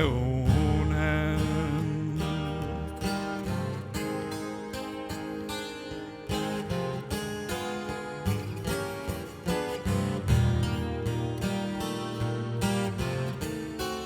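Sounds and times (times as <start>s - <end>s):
twelve-string acoustic guitar chords: 0.0s - 14.0s.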